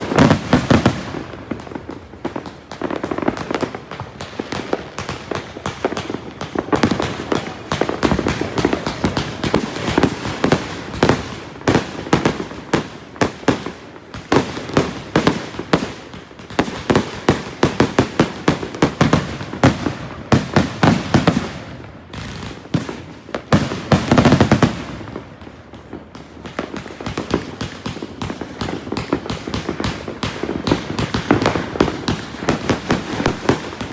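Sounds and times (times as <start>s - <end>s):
fireworks barrage crackling: 0.0s - 33.9s
loud firework bangs: 0.0s - 33.9s.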